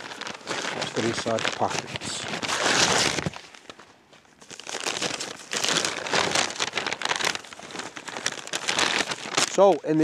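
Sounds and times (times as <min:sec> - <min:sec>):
paper envelope tearing: 0:00.0 - 0:03.5, 0:04.4 - 0:10.0
paper crinkling and rustling: 0:00.0 - 0:10.0.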